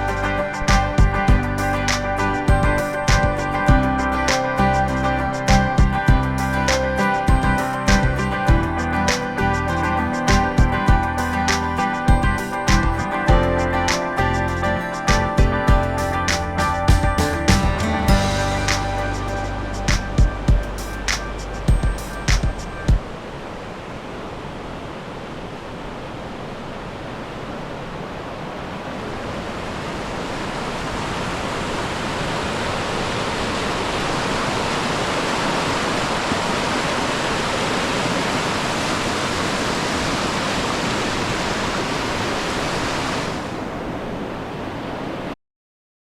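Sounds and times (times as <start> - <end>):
falling water rushing: 0.0 - 45.3.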